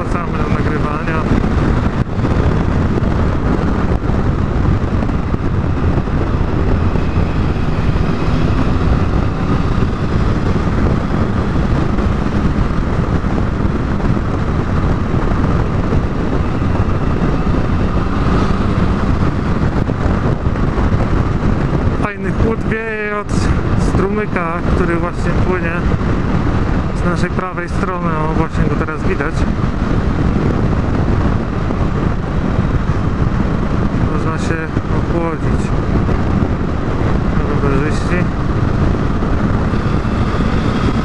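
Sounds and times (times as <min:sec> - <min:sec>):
motorcycle engine running: 0:00.0 - 0:41.0
wind rush over microphone: 0:00.0 - 0:41.0.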